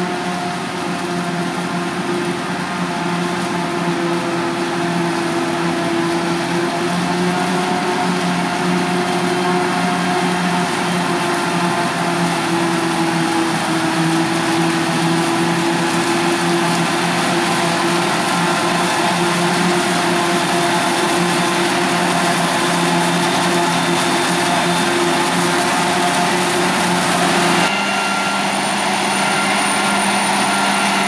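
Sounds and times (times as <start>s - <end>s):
engines droning: 0.0s - 31.0s
forage harvester chopping maize: 0.1s - 30.9s.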